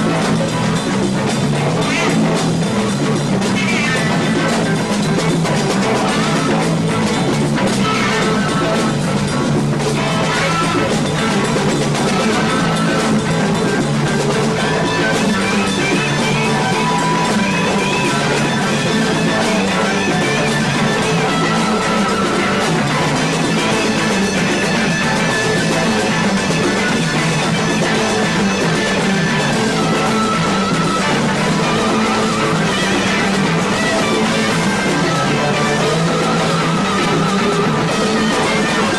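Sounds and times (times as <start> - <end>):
drums: 0.0 - 38.9
electric guitar: 0.0 - 38.9.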